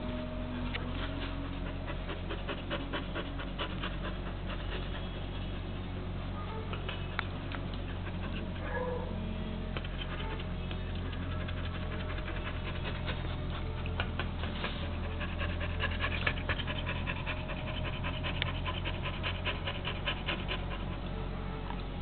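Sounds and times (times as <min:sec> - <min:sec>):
low steady hum: 0:00.0 - 0:22.0
dogs making soft clicks and breaths: 0:00.7 - 0:08.8, 0:09.6 - 0:22.0.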